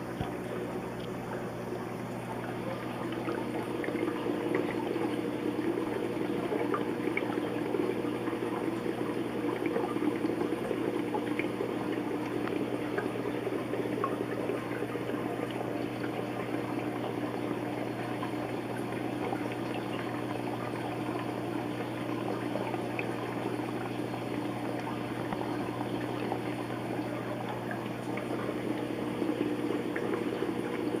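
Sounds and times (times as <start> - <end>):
aquarium bubbling: 0.0 - 31.0
low pump hum: 0.0 - 31.0.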